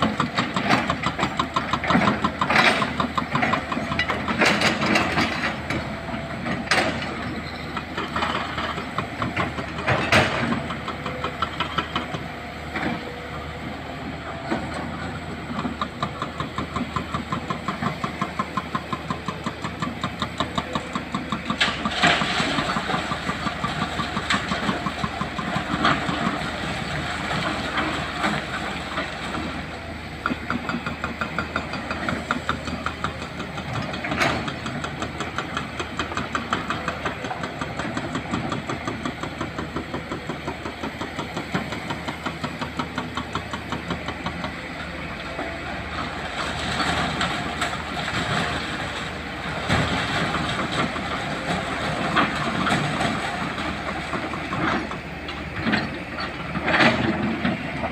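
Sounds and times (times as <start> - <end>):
excavator diesel engine pulsing: 0.0 - 57.9.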